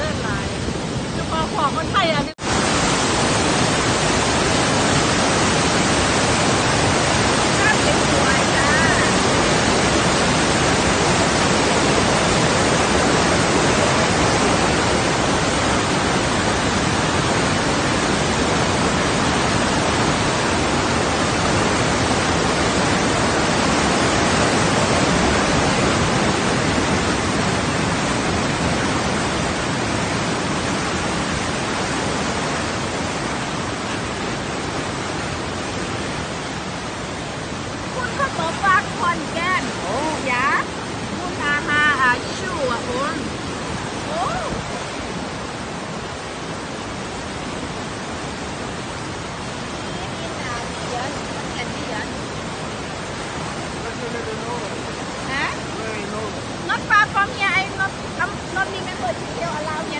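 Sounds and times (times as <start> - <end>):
waterfall rushing: 0.0 - 59.9
white-water river: 0.0 - 59.9.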